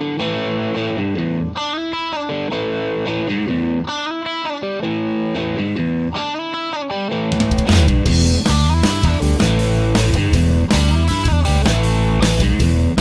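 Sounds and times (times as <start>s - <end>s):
electric guitar riff: 0.0s - 13.0s.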